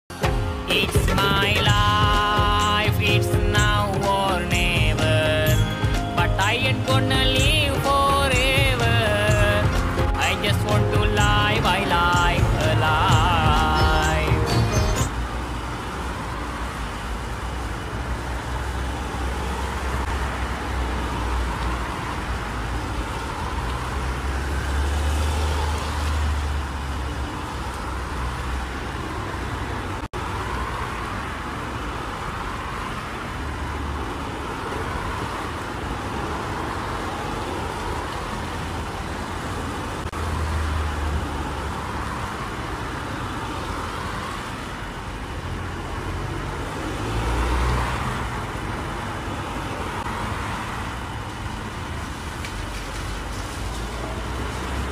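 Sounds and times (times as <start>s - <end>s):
cars passing: 0.1s - 54.9s.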